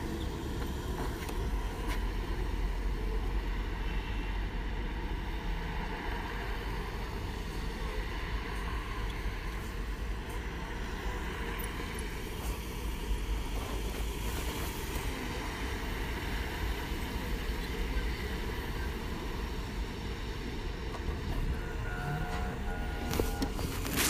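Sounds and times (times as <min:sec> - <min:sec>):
faint steady whine: 0:00.0 - 0:24.0
street traffic rumble: 0:00.0 - 0:24.0.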